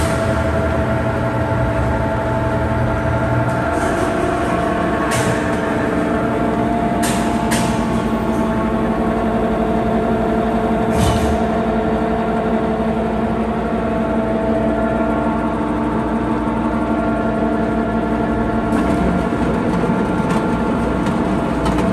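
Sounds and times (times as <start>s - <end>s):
grinder machine hum: 0.0s - 21.9s.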